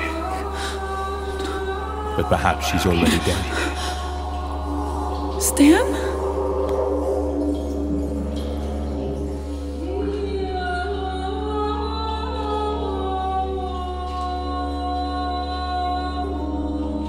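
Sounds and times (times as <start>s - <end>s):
slow film score music: 0.0s - 17.0s
steady low drone: 0.0s - 17.0s
wordless choir-like voices: 0.0s - 17.0s.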